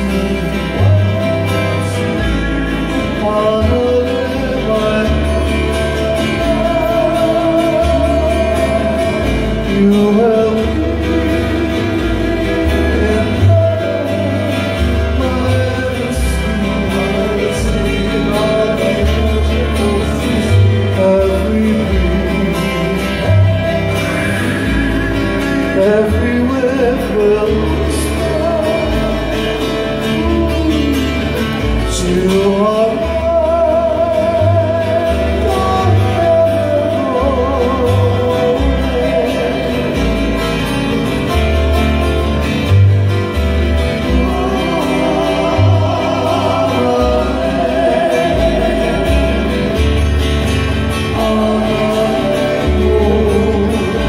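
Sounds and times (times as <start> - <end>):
acoustic guitars strumming: 0.0 - 54.0
person singing: 0.0 - 54.0
plucked upright bass: 0.0 - 54.0.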